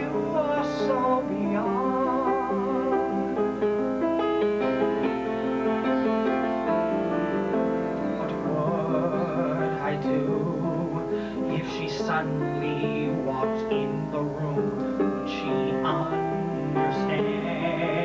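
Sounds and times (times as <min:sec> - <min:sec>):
man singing with vibrato: 0:00.0 - 0:03.6, 0:06.6 - 0:18.0
piano playing: 0:00.0 - 0:18.0.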